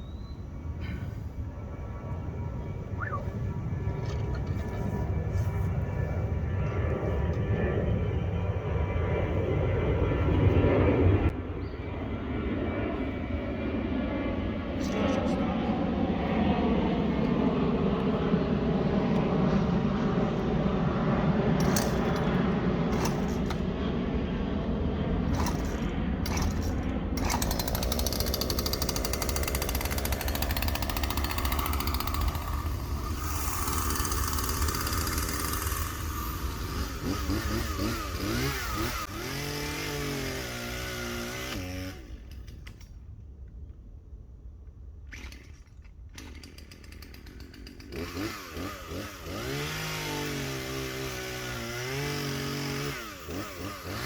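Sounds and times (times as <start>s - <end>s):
loud engine drone: 0.0s - 42.2s, 47.9s - 54.0s.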